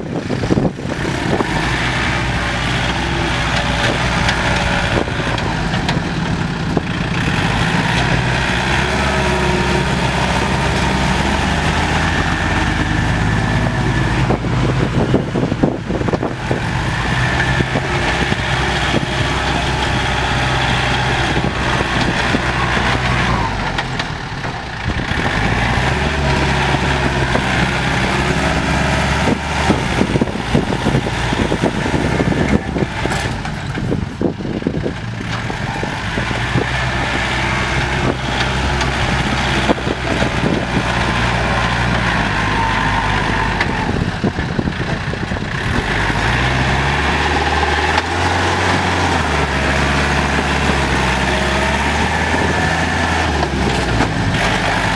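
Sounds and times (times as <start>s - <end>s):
diesel tractor engines under load: 0.0s - 54.9s
clanking and knocking: 0.3s - 54.9s.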